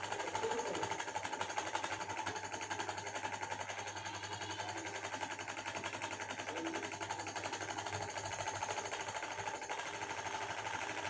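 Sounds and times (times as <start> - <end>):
exhaust fan motor rattling: 0.0 - 10.8.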